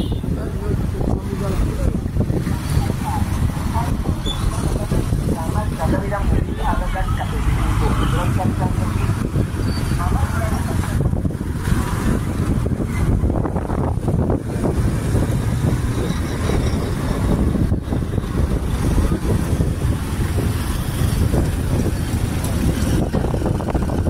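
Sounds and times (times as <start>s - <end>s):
motorcycle engine: 0.0s - 24.0s
road noise: 0.0s - 24.0s
wind on microphone: 0.0s - 24.0s.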